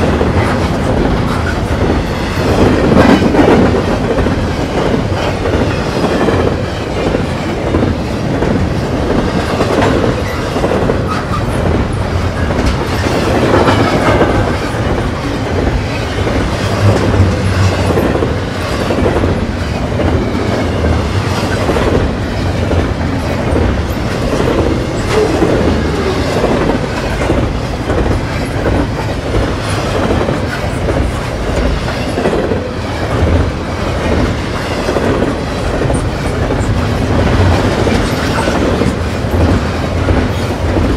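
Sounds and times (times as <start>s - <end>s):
train wheels rumbling on rails: 0.0s - 40.9s
wheels clickety-clack: 0.0s - 40.9s.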